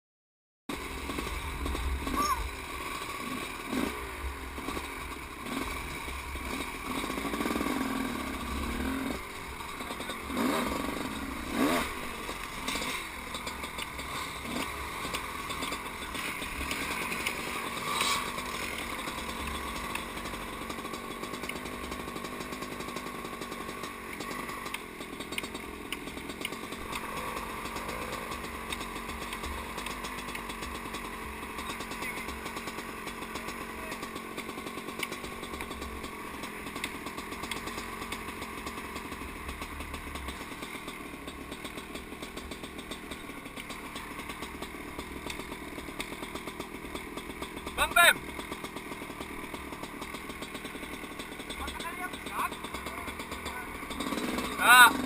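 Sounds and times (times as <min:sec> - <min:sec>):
small engine running: 0:00.7 - 0:55.0.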